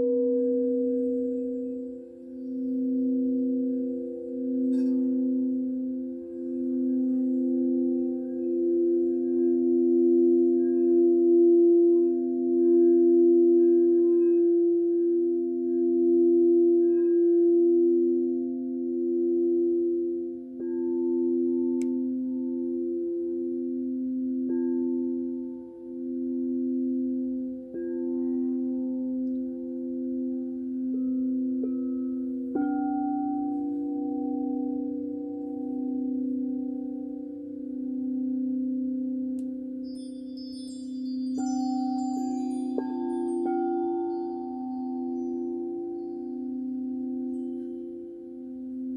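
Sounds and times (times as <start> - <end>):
singing bowls ringing: 0.0 - 48.9.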